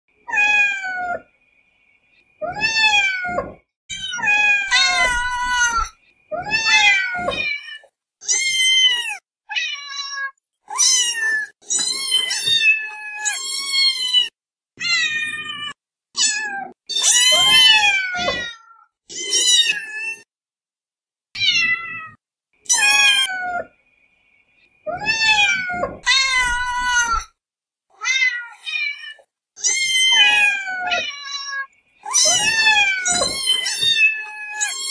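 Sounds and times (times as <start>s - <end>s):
cat meowing: 0.3s - 1.2s, 2.4s - 20.2s, 21.4s - 23.7s, 24.9s - 27.4s, 28.0s - 34.9s.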